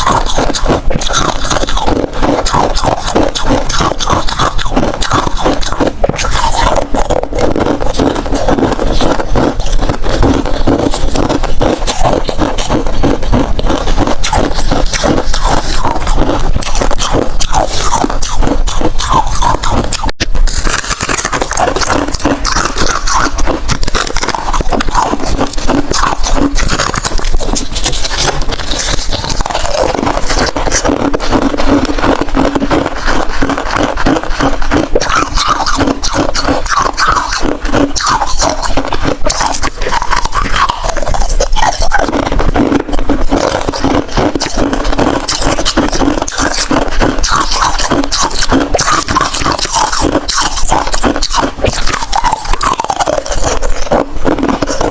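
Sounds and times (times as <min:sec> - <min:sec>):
crunching and chewing ice: 0:00.0 - 0:54.9.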